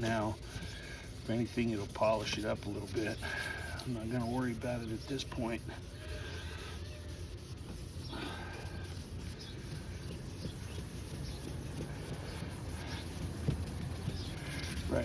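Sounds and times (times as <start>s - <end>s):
sandpaper scrubbing wet plastic: 0.0s - 15.0s.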